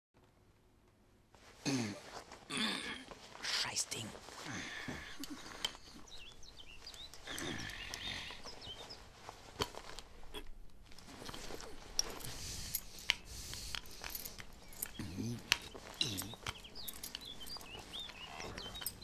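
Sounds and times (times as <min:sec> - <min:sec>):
birds chirping: 0:03.4 - 0:19.0.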